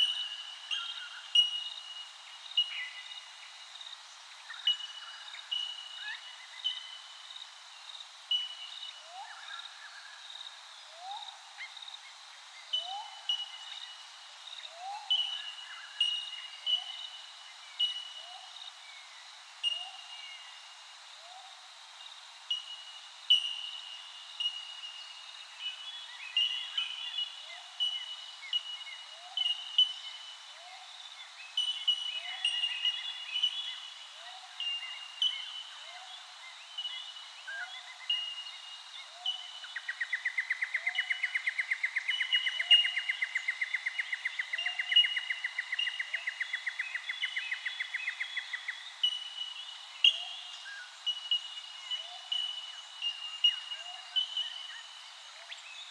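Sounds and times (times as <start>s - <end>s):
faint bird chirps: 8.3s - 21.6s, 22.5s - 55.9s.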